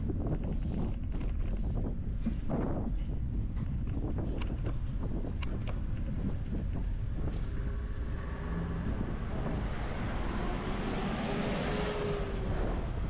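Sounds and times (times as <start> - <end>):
road and engine noise: 0.0 - 13.0
wind on microphone: 0.0 - 13.0.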